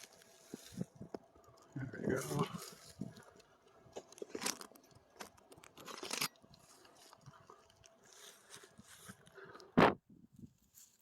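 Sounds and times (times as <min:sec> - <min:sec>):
rustling and crackling handling noises: 0:00.0 - 0:11.0.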